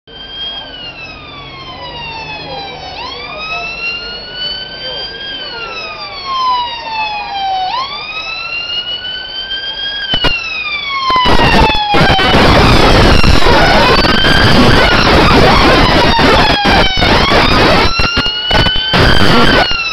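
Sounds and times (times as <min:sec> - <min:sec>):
ambulance siren wailing: 0:00.1 - 0:19.9
traffic: 0:00.1 - 0:19.9.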